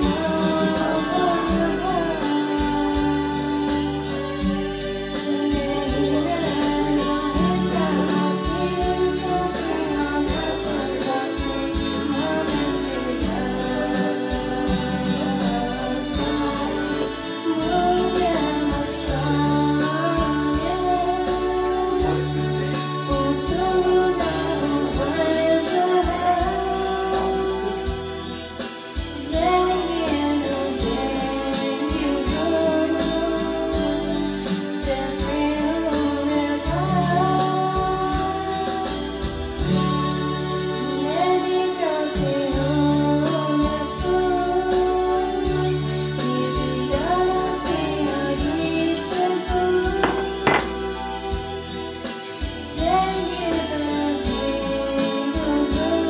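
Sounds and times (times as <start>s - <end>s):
bass and drums backing track: 0.0s - 56.0s
woman singing slow song: 0.0s - 56.0s.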